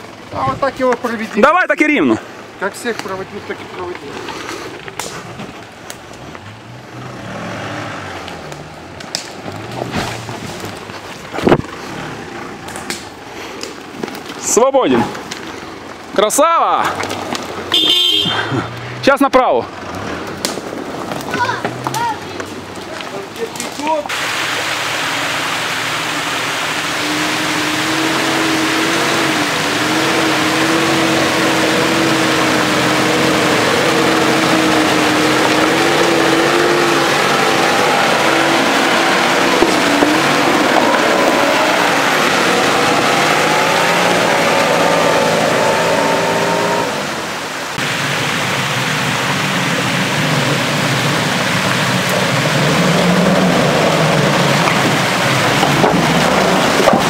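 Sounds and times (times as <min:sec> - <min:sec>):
suv engines under load: 0:00.0 - 0:57.0
tyres splashing: 0:00.0 - 0:57.0
rushing water: 0:06.4 - 0:57.0.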